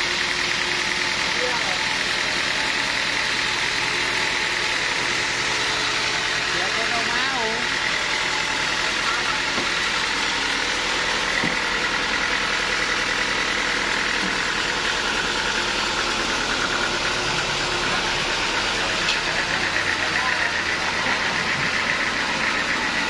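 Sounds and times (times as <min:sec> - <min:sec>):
sawmill machinery humming: 0:00.0 - 0:23.0.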